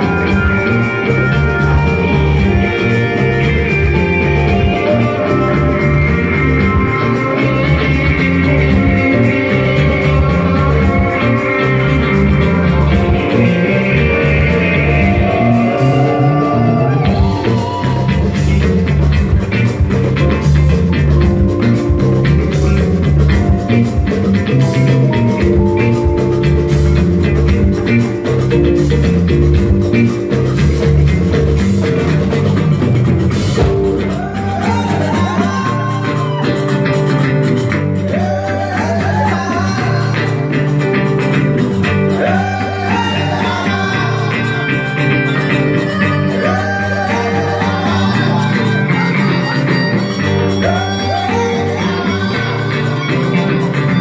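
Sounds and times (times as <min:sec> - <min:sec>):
electric guitars: 0:00.0 - 0:54.0
hand drums: 0:00.0 - 0:54.0
lead guitar bending phrases: 0:00.0 - 0:54.0
rock band jamming: 0:00.0 - 0:54.0.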